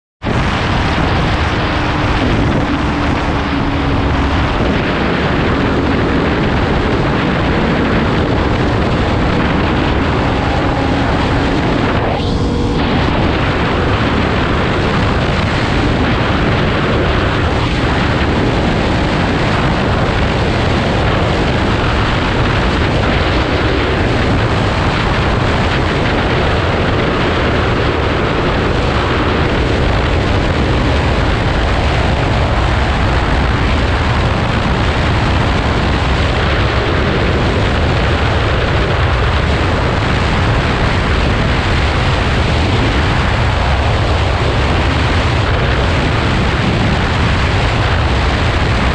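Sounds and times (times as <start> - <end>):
wind rushing over microphone: 0.2 - 48.9
motorcycle engine at high revs: 0.3 - 48.9.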